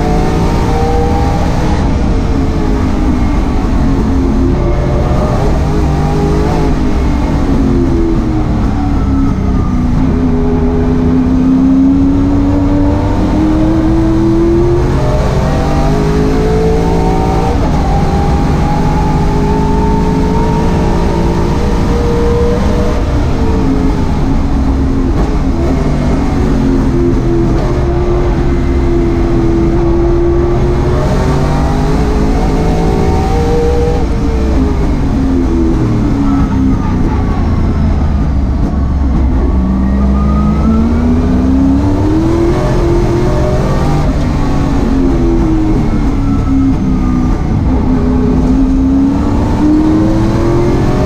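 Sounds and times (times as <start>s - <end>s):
racing car engine at full throttle: 0.0s - 51.0s.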